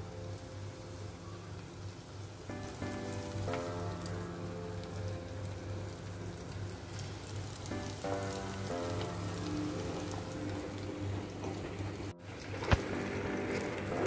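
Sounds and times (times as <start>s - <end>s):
hot oil sizzling and crackling: 0.0s - 14.0s.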